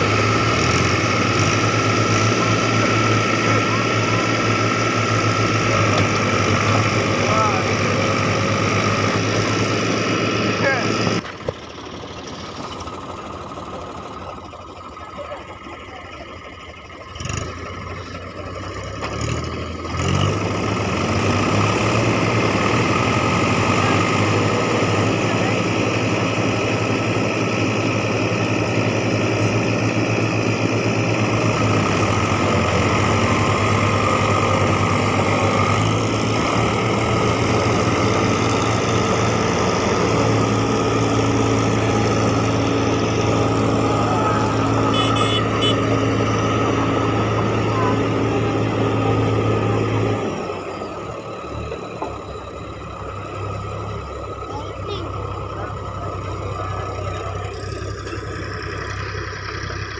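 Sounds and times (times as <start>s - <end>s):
tractor diesel engines revving: 0.0s - 59.9s.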